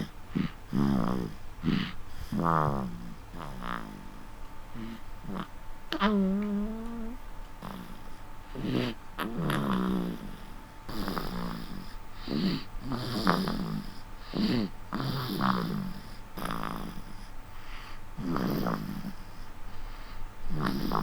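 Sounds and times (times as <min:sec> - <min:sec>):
baby snoring: 0:00.0 - 0:21.0.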